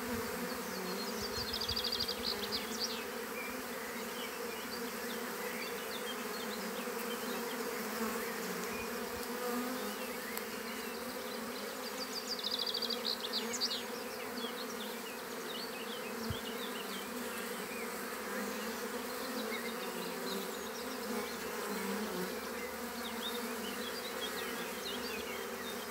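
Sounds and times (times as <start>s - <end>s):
bees buzzing: 0.0s - 25.9s.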